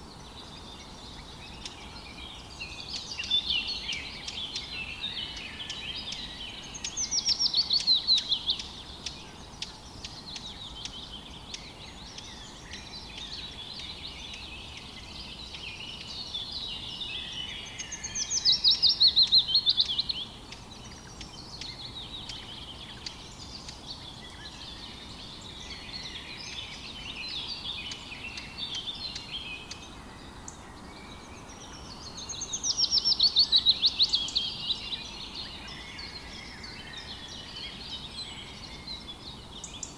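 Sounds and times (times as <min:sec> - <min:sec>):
birds chirping: 0:00.0 - 0:39.9
songbird singing rapid falling notes: 0:00.0 - 0:39.9.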